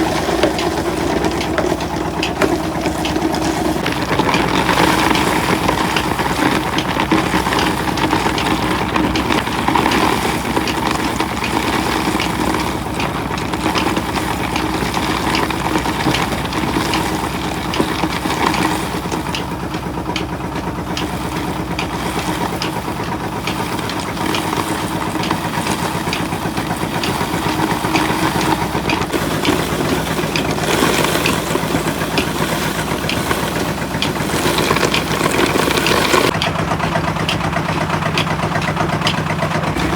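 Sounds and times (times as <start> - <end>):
machine engine running: 0.0 - 39.9
short irregular clicks and knocks: 0.0 - 39.9.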